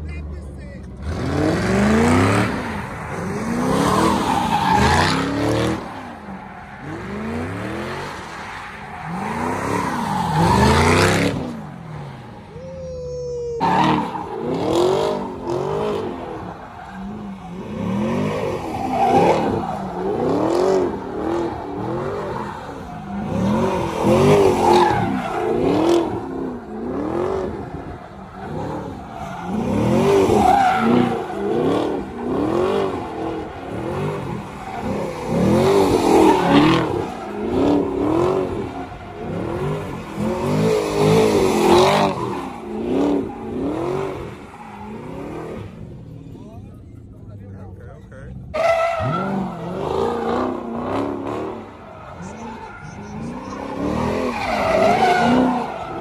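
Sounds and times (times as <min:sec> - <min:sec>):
car engine revving: 0:00.0 - 0:12.8, 0:13.6 - 0:56.0
tires spinning on pavement: 0:00.0 - 0:56.0.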